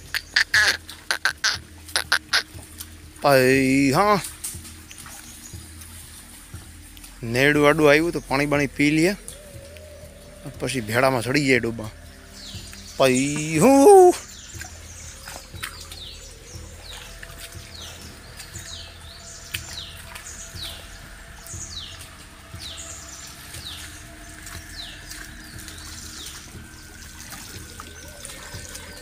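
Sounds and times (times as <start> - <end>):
bird calling: 0.0 - 5.8, 7.2 - 29.0
stream water flowing: 0.0 - 29.0.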